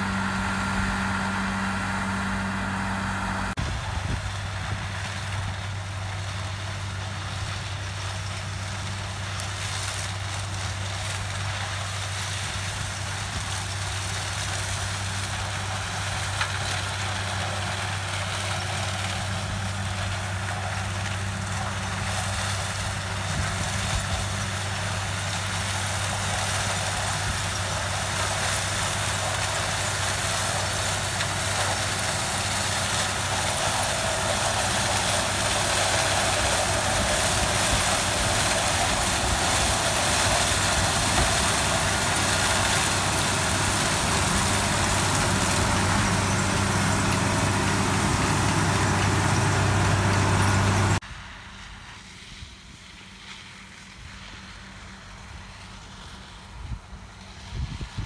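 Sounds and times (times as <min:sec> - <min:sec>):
harvester diesel engine running: 0:00.0 - 0:52.1
rushing mechanical noise: 0:00.0 - 0:52.2
wind: 0:00.0 - 0:58.0.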